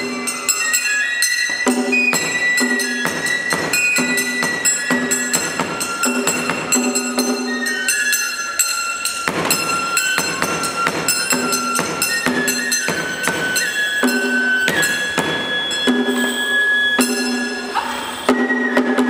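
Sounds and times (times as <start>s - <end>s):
sharp percussive strikes: 0.0s - 19.0s
sliding high melody: 0.0s - 19.0s.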